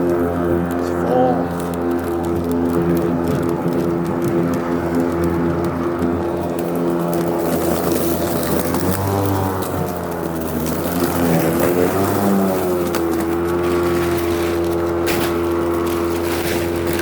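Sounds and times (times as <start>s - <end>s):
electric lawn mower running: 0.0s - 17.0s.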